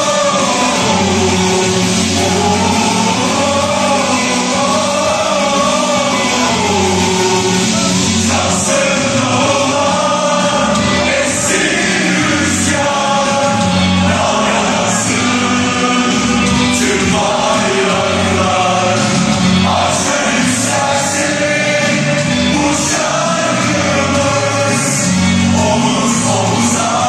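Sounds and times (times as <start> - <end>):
voices singing together: 0.0 - 27.0.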